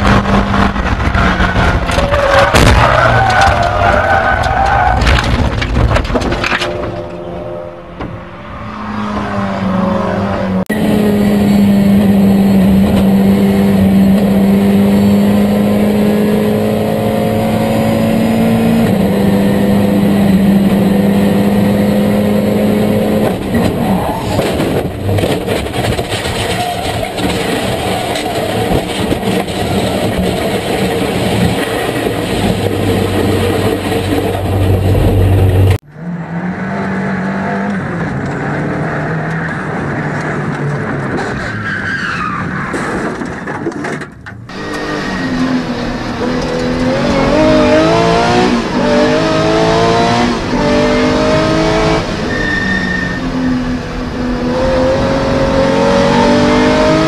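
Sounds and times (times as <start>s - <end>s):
race car engine at high revs: 0.0s - 3.8s, 6.6s - 41.2s, 44.5s - 57.0s.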